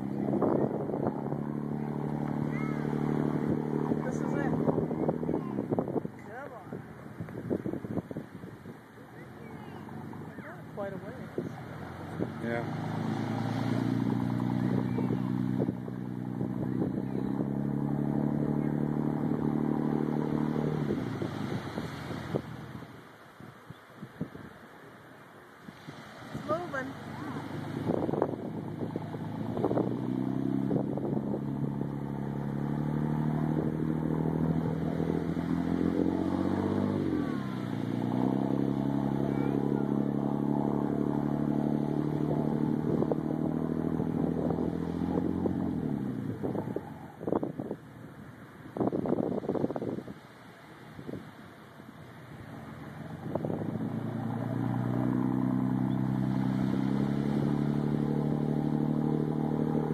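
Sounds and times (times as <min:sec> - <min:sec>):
boat engine running: 0:00.0 - 0:23.0, 0:25.7 - 0:59.9.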